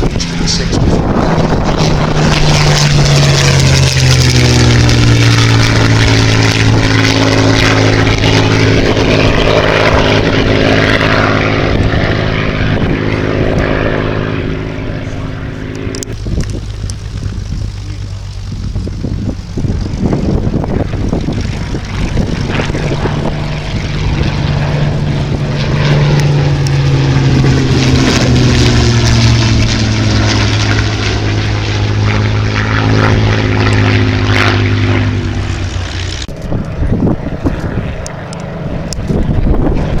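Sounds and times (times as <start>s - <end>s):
propeller plane engine passing: 0.0s - 40.0s.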